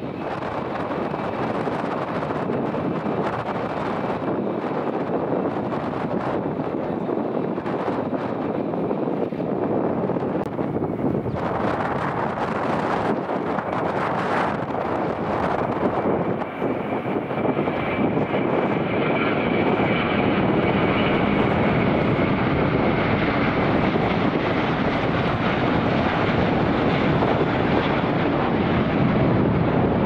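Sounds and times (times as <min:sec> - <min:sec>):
airliner engines running: 0:00.0 - 0:30.0.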